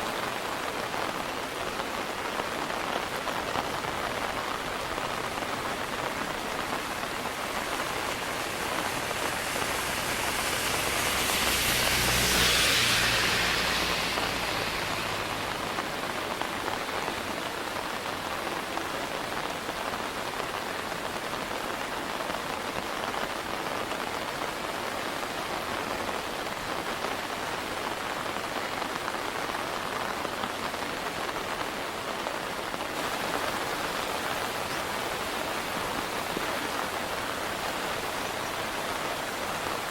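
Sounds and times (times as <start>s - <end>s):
fast-flowing river water: 0.0s - 39.9s
rain hissing: 0.0s - 39.9s.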